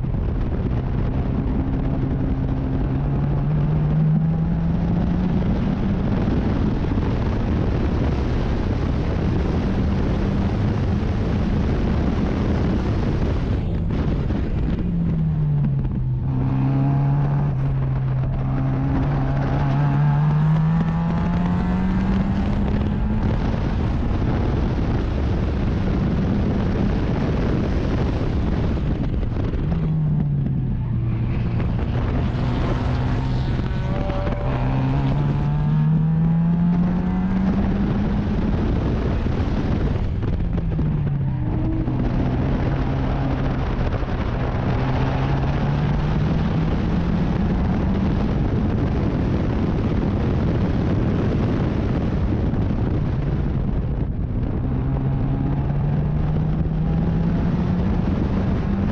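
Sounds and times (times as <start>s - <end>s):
race car engine: 0.0s - 58.9s.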